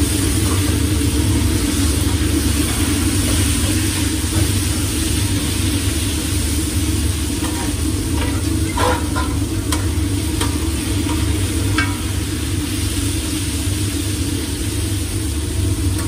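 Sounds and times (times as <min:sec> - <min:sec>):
sausage sizzling on a griddle: 0:00.0 - 0:16.0
steady low hum: 0:00.0 - 0:16.0.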